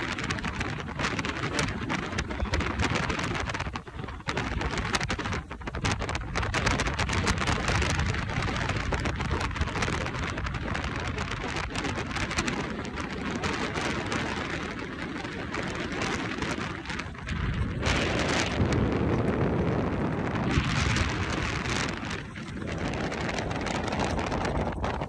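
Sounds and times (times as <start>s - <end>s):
motorboat low rumble: 0.0s - 25.0s
rushing water: 0.0s - 25.0s
wind on microphone: 0.0s - 25.0s.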